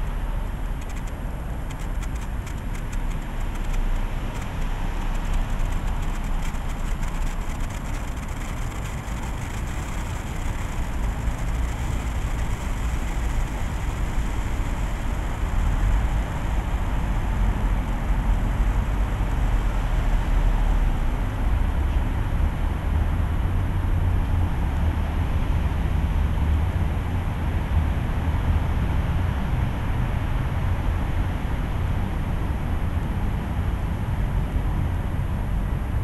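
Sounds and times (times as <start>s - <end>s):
city traffic rumble: 0.0s - 36.0s.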